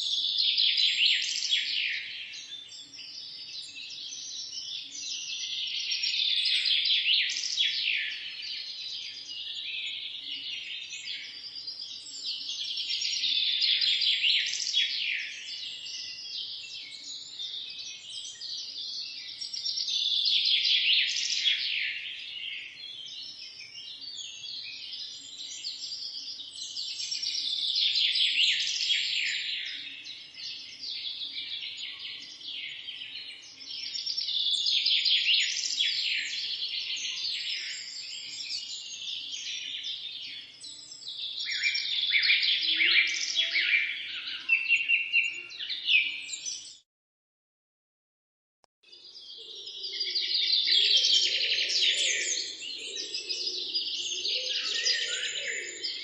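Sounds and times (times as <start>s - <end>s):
songbirds chirping chorus: 0.0s - 46.8s, 48.9s - 56.0s.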